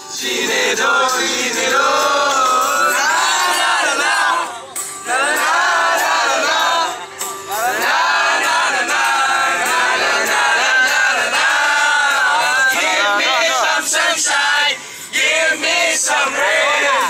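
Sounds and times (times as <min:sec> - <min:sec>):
crowd singing and shouting: 0:00.0 - 0:17.0.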